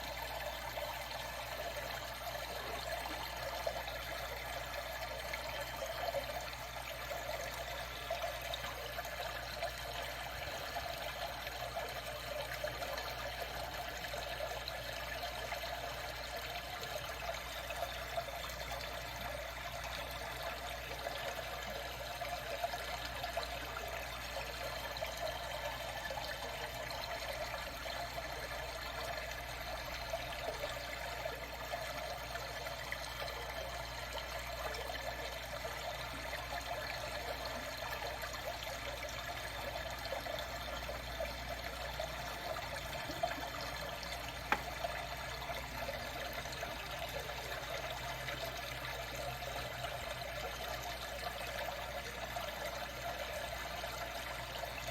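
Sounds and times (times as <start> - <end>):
water trickling and splashing: 0.0 - 54.9.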